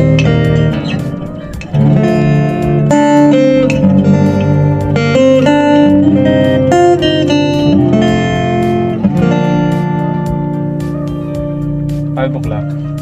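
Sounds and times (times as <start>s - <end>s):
amplified acoustic guitar melody: 0.0s - 13.0s.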